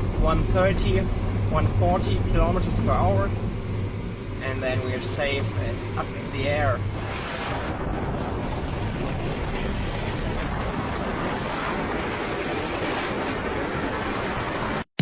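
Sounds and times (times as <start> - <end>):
rush of airflow: 0.0 - 14.8.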